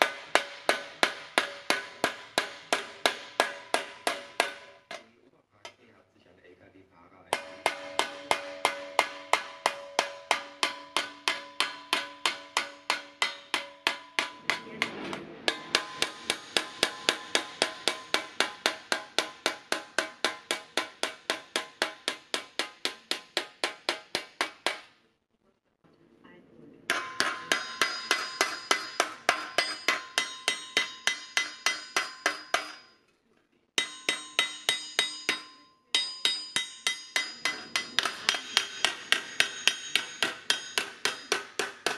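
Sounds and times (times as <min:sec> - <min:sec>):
hammer striking sheet metal: 0:00.0 - 0:05.1, 0:07.3 - 0:25.0, 0:26.9 - 0:33.0, 0:33.8 - 0:41.9.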